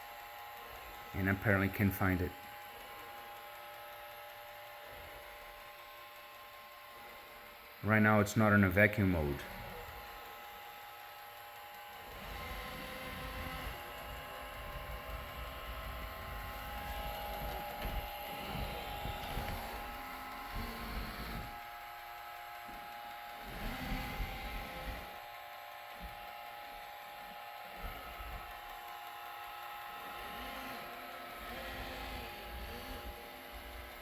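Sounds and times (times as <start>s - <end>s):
robot vacuum wheel motors whining: 0.0s - 34.0s.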